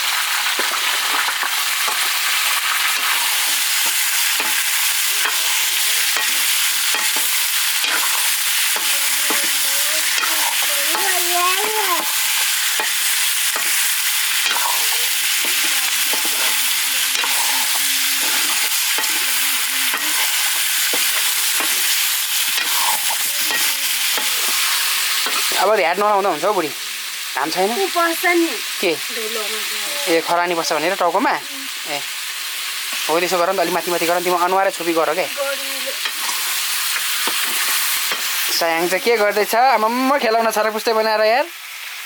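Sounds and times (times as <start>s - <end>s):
chicken sizzling in hot oil: 0.0s - 42.0s
meat stirred in pan: 0.0s - 42.0s.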